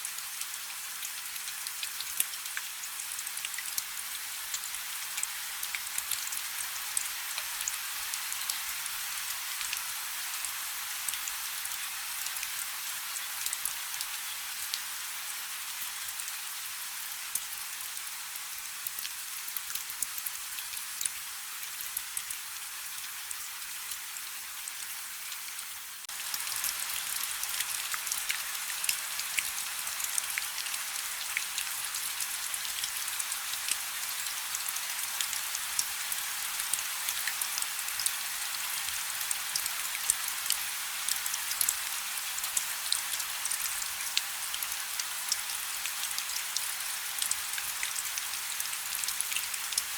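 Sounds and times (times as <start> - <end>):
light rain hiss: 0.0 - 49.9.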